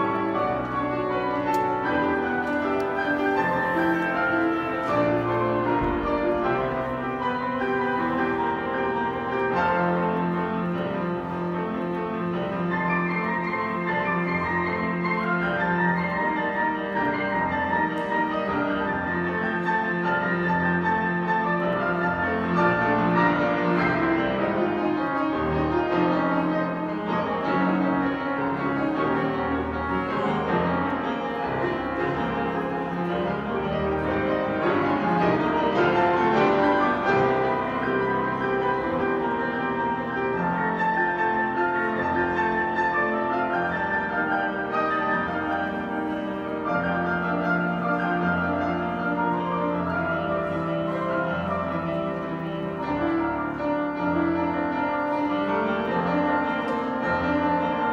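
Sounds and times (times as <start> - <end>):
grand piano duet: 0.0 - 57.9.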